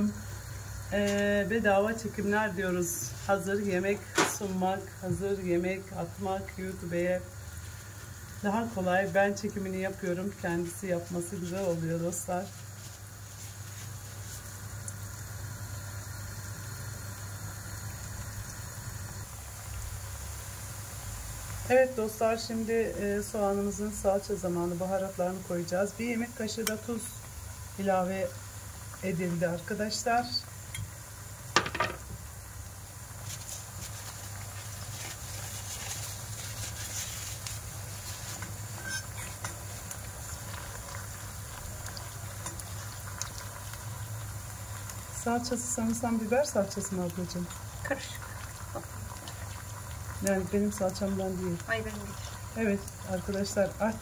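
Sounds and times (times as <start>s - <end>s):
onions sizzling in butter: 0.0s - 54.0s.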